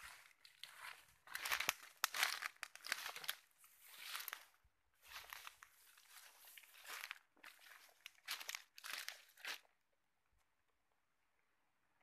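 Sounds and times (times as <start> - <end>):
rustling and crackling: 0.0 - 9.7.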